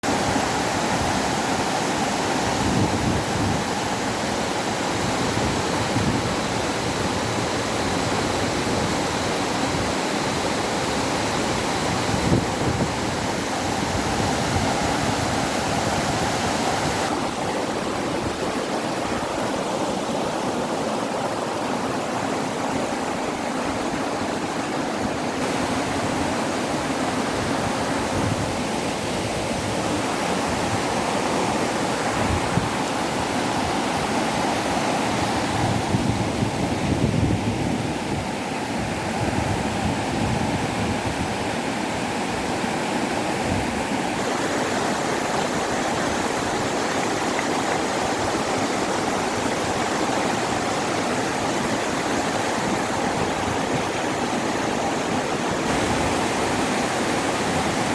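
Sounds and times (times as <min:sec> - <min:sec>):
waterfall rushing: 0:00.0 - 0:35.8, 0:43.8 - 0:57.9.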